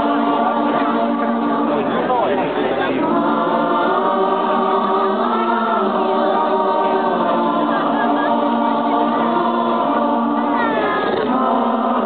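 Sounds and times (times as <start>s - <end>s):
choir singing sustained chords: 0.0s - 12.0s.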